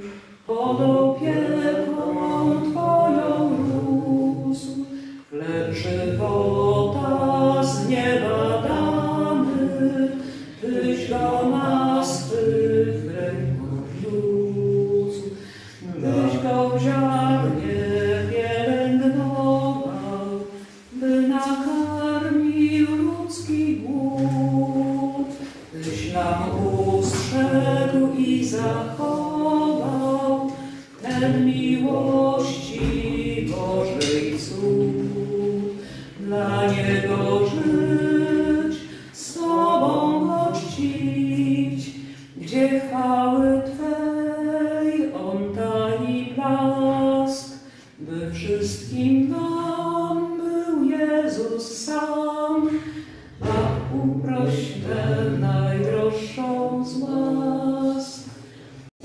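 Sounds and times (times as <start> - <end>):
group singing a hymn unaccompanied: 0.0 - 58.9.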